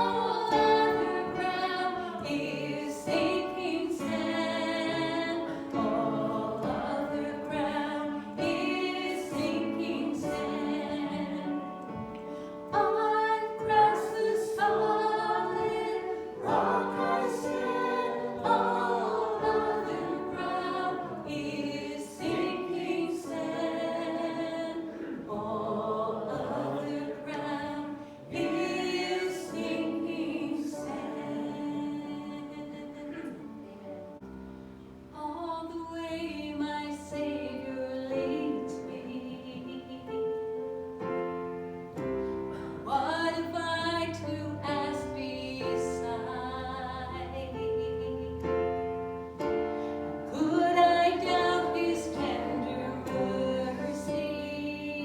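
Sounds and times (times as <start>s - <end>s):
congregation singing a hymn: 0.0s - 34.2s, 35.6s - 55.0s.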